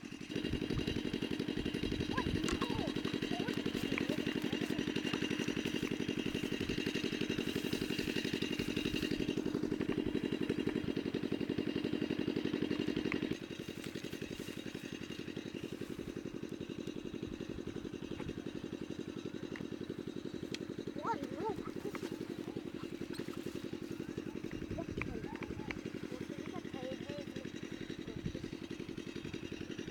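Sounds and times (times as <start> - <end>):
small engine thumping: 0.0 - 29.9.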